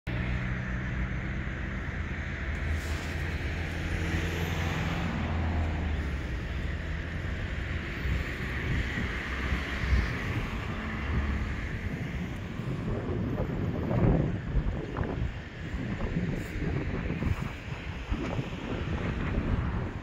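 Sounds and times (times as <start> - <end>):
vehicle engines rumbling: 0.1 - 20.0.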